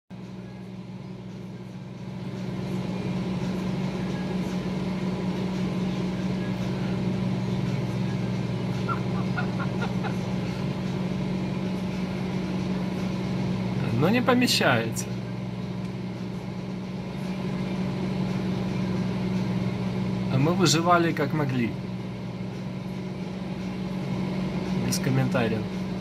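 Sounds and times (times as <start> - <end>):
microwave oven humming: 0.1 - 26.0.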